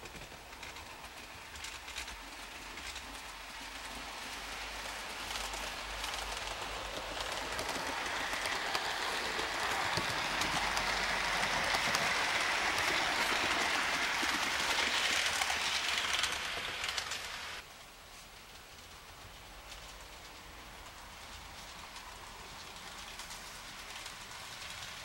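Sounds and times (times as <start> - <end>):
model train whirring: 0.0 - 17.7, 18.5 - 25.0
small wheels rolling on rails: 0.0 - 25.0.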